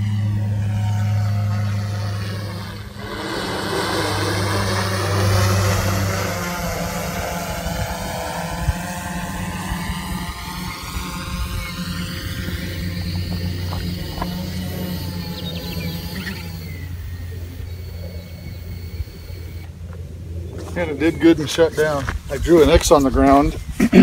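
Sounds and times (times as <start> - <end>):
drone propellers buzzing: 0.0 - 24.0.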